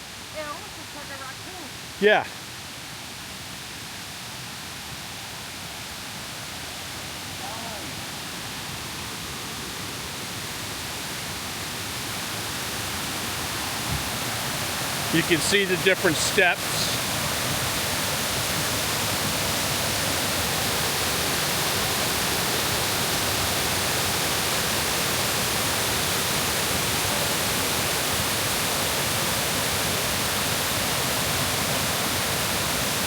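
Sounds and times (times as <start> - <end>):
waterfall rushing over rock steps: 0.0 - 33.0.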